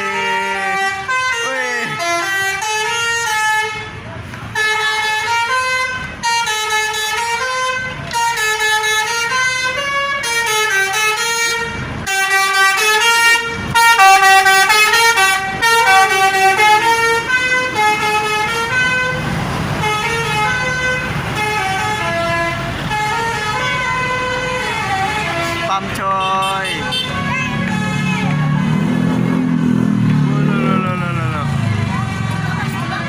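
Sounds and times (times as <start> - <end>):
bus musical horn playing tune: 0.0 - 19.2, 19.8 - 29.0.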